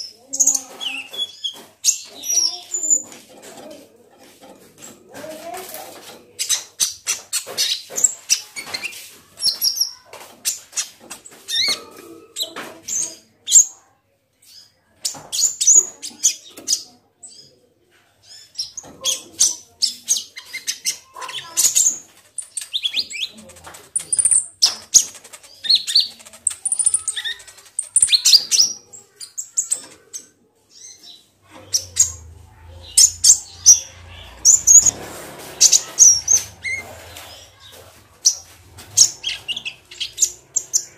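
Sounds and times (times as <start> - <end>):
bird chirping and twittering: 0.0 - 13.8, 14.4 - 17.6, 18.2 - 40.9.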